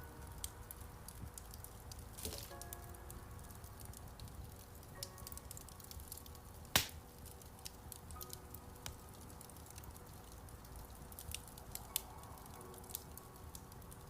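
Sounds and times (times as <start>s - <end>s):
soft piano notes: 0.0s - 14.0s
wood fire crackling: 0.0s - 14.0s.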